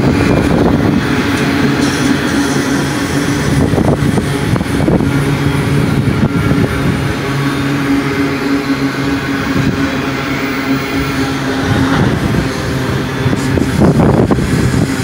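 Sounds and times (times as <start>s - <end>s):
low hum: 0.0s - 15.0s
train wheels rumbling on rail: 0.0s - 15.0s.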